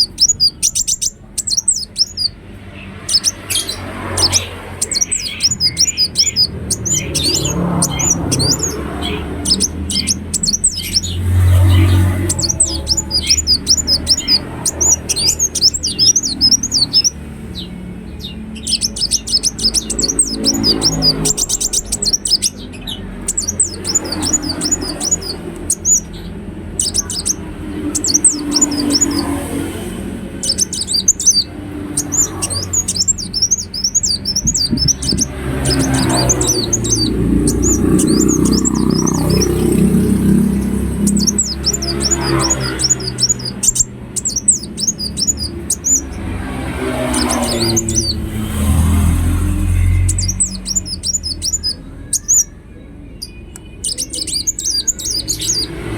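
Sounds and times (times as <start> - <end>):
bird chirping and twittering: 0.0 - 55.9.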